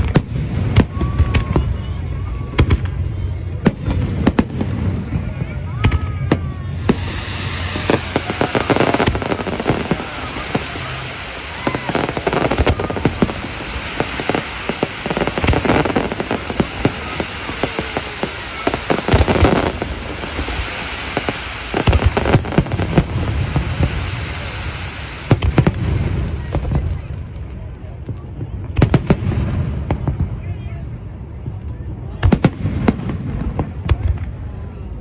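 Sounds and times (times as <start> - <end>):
fireworks bangs: 0.0 - 34.7
fireworks crackling: 0.0 - 35.0.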